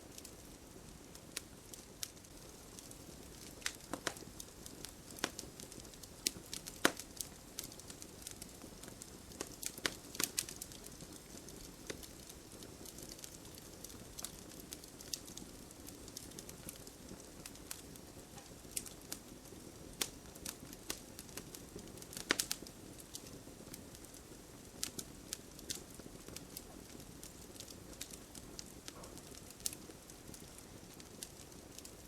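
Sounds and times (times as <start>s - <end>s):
campfire crackling and popping: 0.0s - 32.0s
flames rustling: 0.0s - 32.0s.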